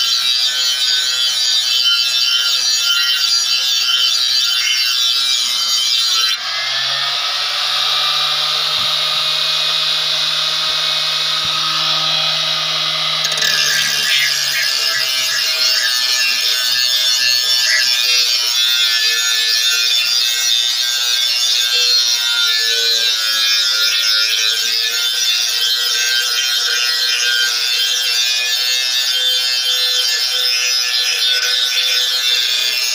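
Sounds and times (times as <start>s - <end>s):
grinding wheel on steel blade: 0.0s - 32.9s.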